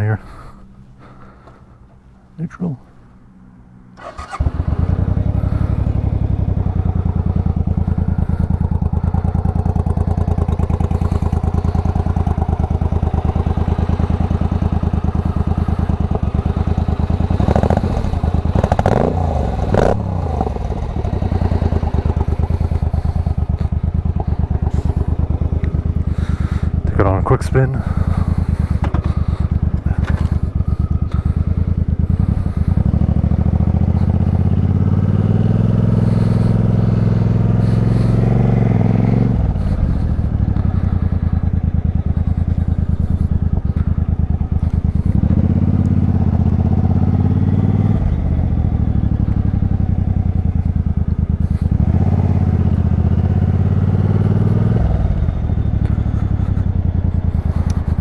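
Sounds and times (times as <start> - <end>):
motorcycle engine accelerating: 3.9 - 58.0.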